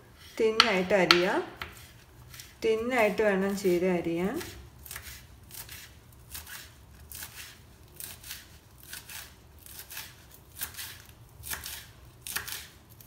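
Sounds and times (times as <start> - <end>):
knife slicing leaves on wooden board: 0.6 - 3.2, 4.4 - 13.0.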